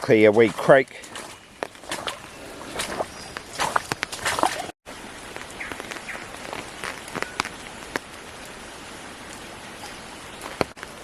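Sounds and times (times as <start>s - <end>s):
boots splashing through water: 0.0s - 11.0s
water pattering and dripping: 0.0s - 11.0s.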